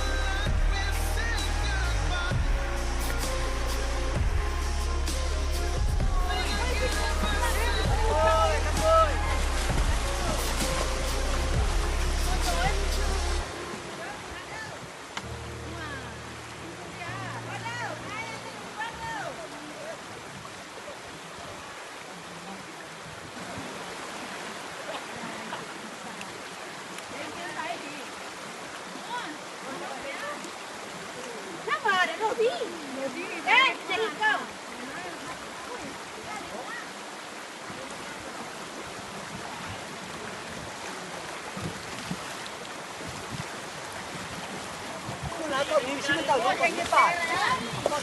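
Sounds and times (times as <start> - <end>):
flowing water rushing: 0.0 - 48.0.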